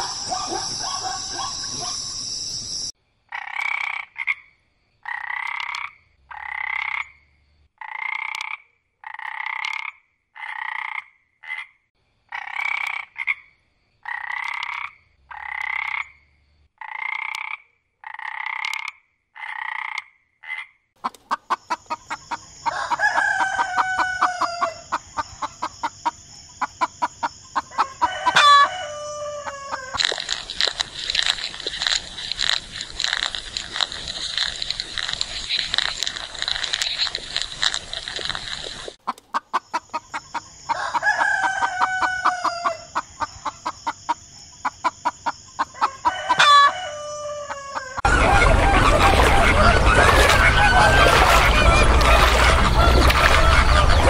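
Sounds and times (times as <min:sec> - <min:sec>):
tree frog croaking: 0:00.0 - 0:28.7, 0:29.6 - 0:40.7, 0:48.0 - 0:54.0
rapid pulsing frog calls: 0:00.0 - 0:54.0.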